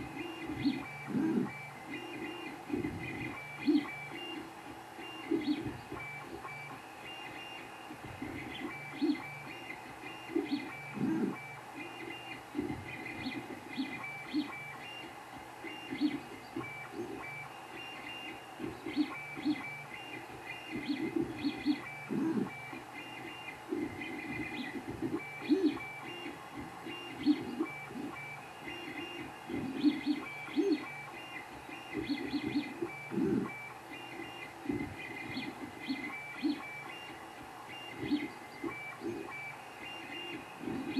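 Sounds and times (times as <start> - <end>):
steady printer hum: 0.0 - 40.9.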